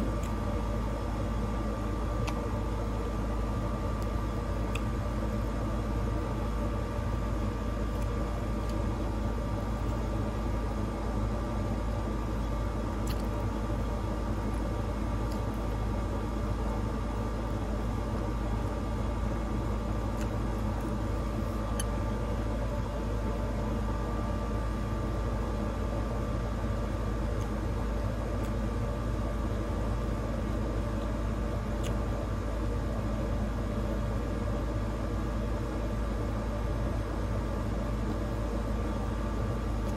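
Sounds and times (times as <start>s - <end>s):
faint steady whine: 0.0s - 39.9s
low mechanical drone: 0.0s - 39.9s.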